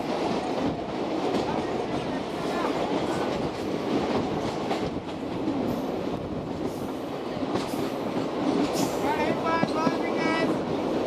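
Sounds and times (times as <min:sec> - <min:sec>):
passing train rushing roar: 0:00.0 - 0:11.0
train wheels clattering: 0:00.0 - 0:11.0.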